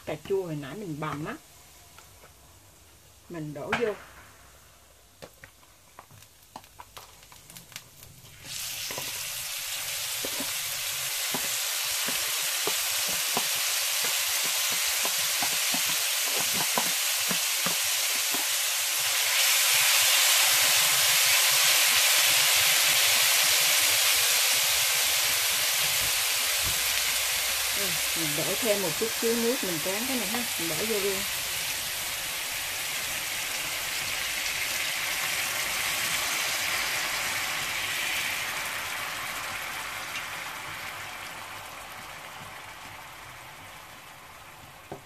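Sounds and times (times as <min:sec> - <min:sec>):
food sizzling in frying pan: 0:00.0 - 0:45.0.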